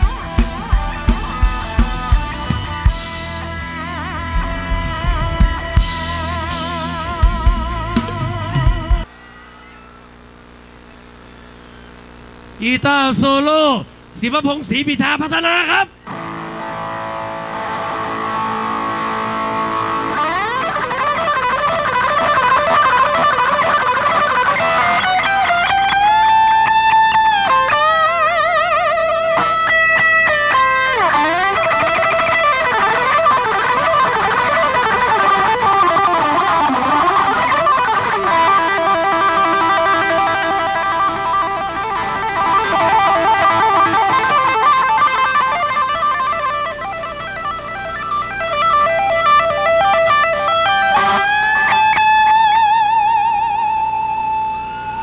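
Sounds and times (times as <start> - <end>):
electric guitar solo: 0.0 - 55.0.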